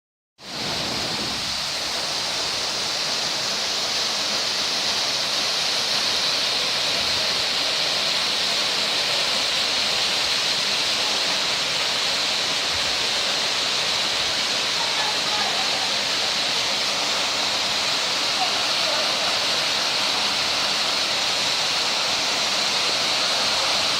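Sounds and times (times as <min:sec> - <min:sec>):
rushing water: 0:00.4 - 0:23.9.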